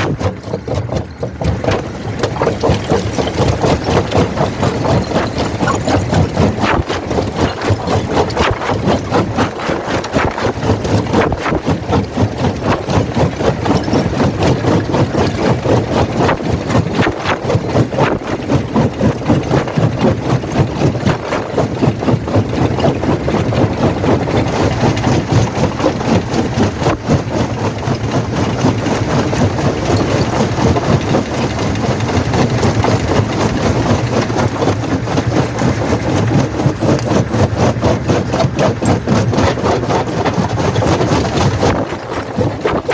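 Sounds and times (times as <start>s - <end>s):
jaw crusher rumbling: 0.0s - 42.9s.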